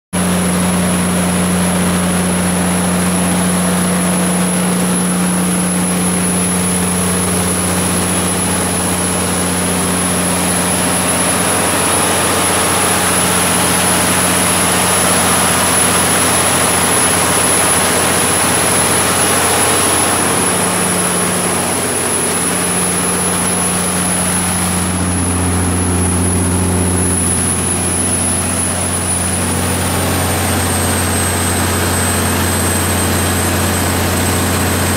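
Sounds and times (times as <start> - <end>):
diesel generator drone: 0.2 - 34.9
thin high whine: 2.3 - 34.9.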